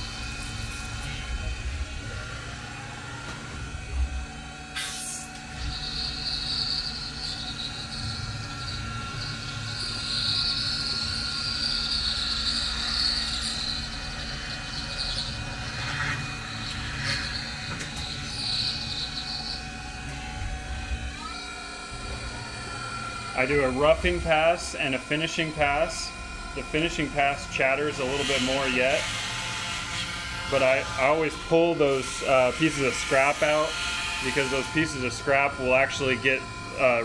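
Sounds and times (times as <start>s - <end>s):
high-pitched cutting whine: 0.0s - 37.0s
mill spindle running: 0.0s - 37.0s.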